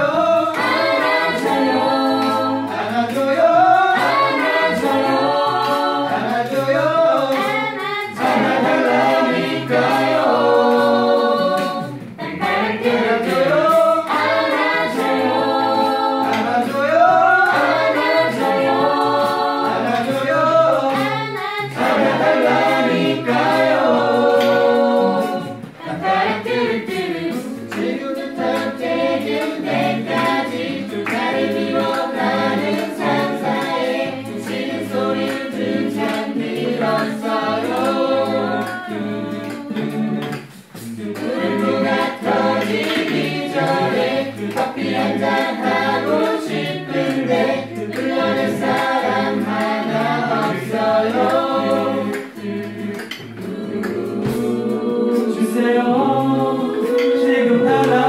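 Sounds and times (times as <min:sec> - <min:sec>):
mixed choir singing pop song: 0:00.0 - 0:58.0.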